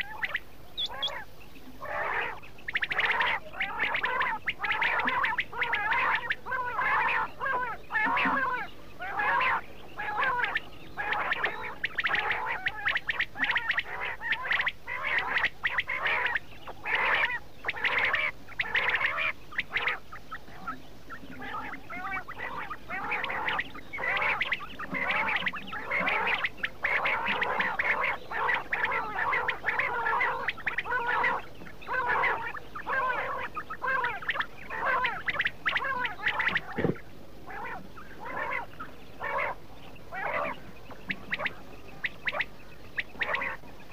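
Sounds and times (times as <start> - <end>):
quail chattering calls: 0.0 - 43.9.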